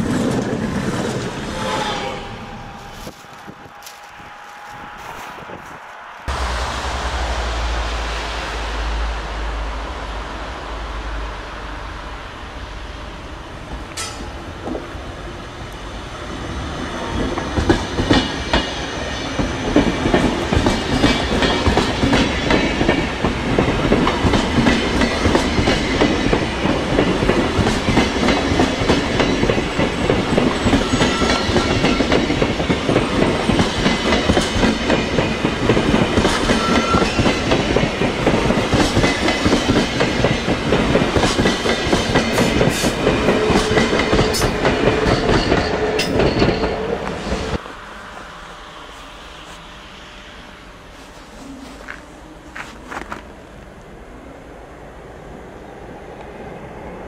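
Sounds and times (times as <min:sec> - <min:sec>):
passenger train rolling past: 0:00.0 - 0:57.0.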